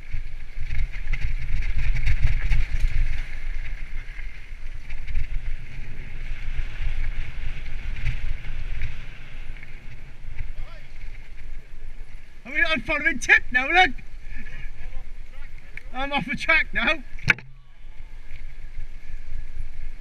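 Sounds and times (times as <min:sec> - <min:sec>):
bike rattling: 0:00.0 - 0:20.0
wind rumbling on microphone: 0:00.0 - 0:20.0.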